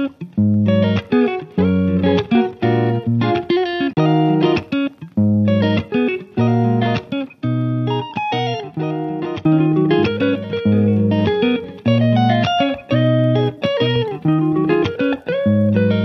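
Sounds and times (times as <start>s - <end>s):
plucked instrumental music: 0.0s - 16.0s.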